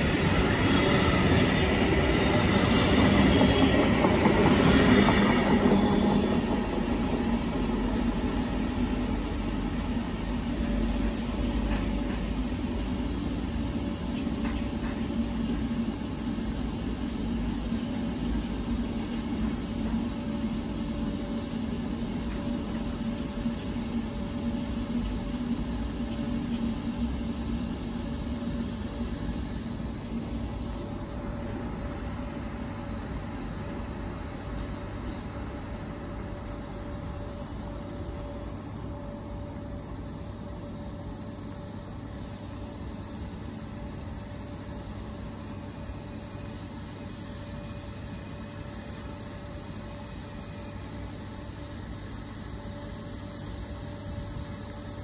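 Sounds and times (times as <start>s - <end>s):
passenger train rumbling past: 0.0s - 55.0s.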